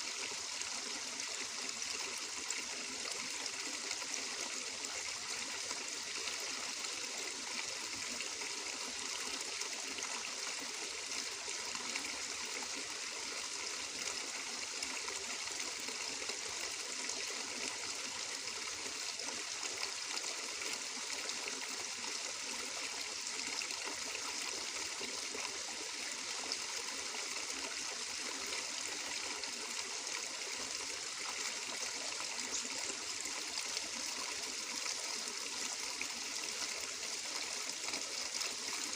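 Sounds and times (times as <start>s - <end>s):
stream water trickling over stones: 0.0s - 38.9s.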